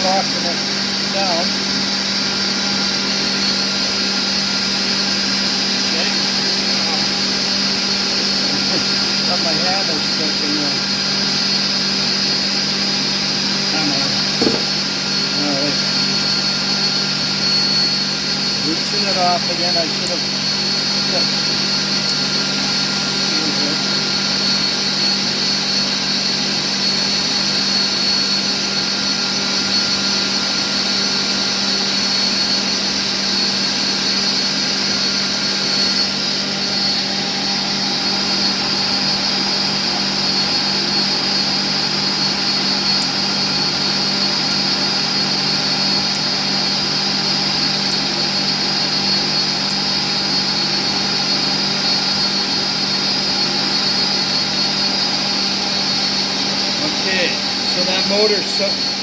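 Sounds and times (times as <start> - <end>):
workshop machinery with high whine: 0.0 - 59.0.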